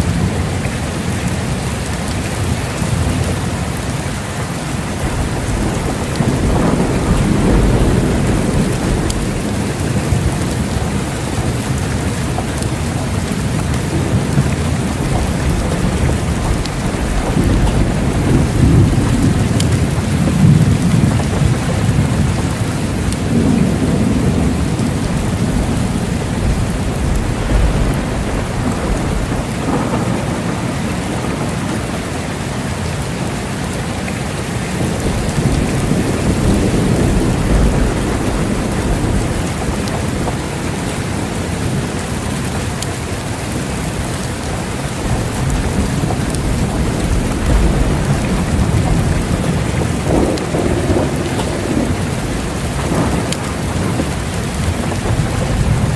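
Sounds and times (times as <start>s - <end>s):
heavy rain falling: 0.0s - 55.9s
low thunder rumbling: 0.0s - 55.9s.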